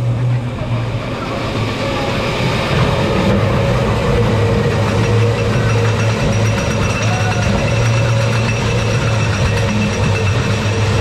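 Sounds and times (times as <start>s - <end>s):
low hum: 0.0s - 11.0s
roller coaster lift mechanical drone: 0.0s - 11.0s.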